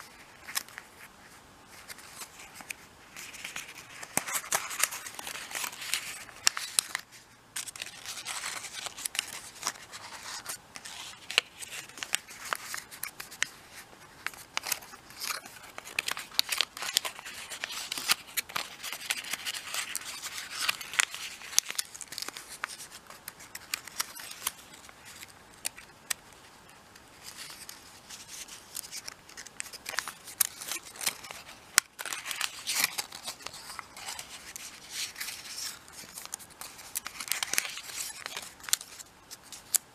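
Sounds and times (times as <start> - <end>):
paper rustling and crackling: 0.0 - 39.9.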